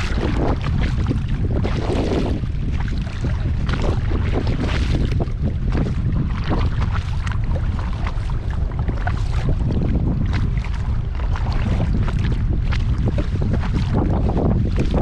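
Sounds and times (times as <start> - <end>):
paddle splashes and drips: 0.0 - 15.0
wind buffeting microphone: 0.0 - 15.0.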